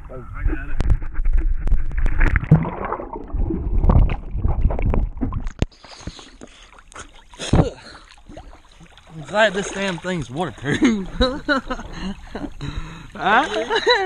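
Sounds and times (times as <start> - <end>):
water splashing and sloshing: 0.4 - 14.0.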